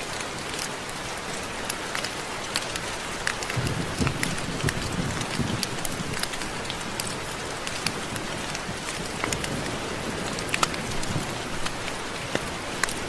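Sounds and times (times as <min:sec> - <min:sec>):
raindrops tapping: 0:00.0 - 0:13.0
steady rain falling: 0:00.0 - 0:13.0.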